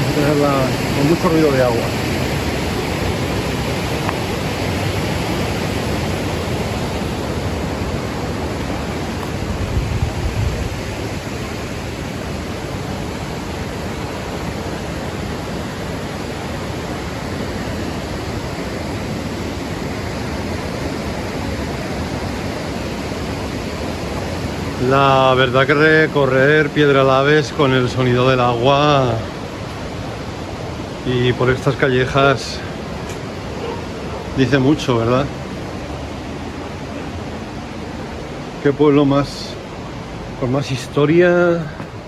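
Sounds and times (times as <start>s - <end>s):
stream water rushing: 0.0s - 42.0s.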